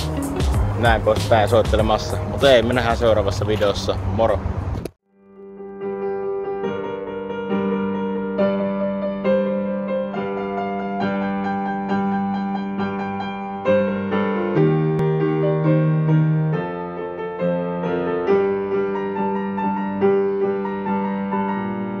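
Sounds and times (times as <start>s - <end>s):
piano chords over low notes: 0.0s - 4.4s, 5.2s - 22.0s.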